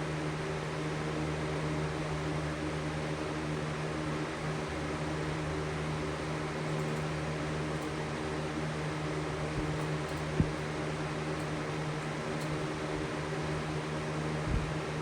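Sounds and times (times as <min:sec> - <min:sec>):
box fan humming: 0:00.0 - 0:15.0.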